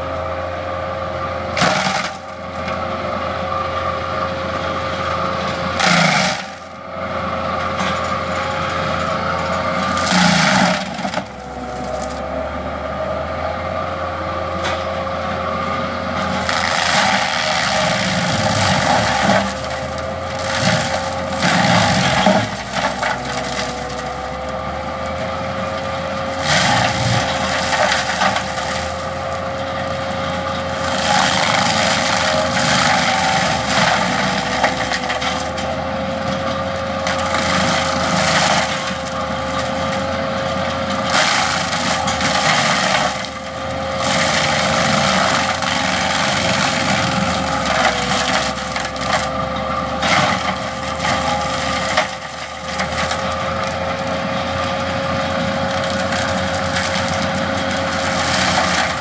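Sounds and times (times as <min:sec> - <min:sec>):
mulcher grinding and splintering wood: 0:00.0 - 0:59.0.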